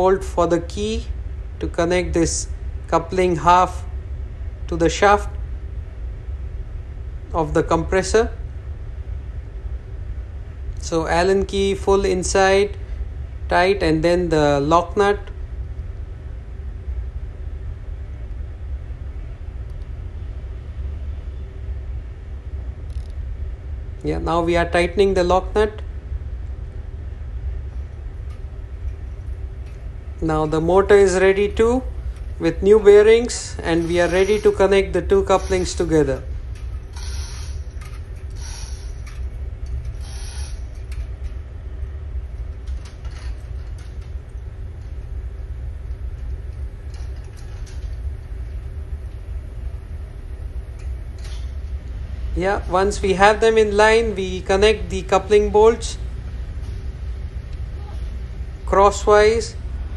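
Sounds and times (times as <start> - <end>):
constant hum: 0.0 - 59.9
low background rumble: 0.0 - 59.9.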